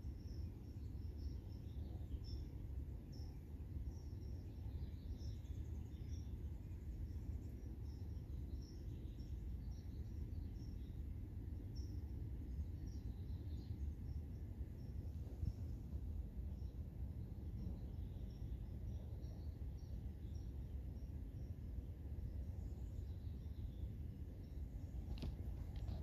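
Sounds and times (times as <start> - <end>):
steady low rumble: 0.1 - 26.0.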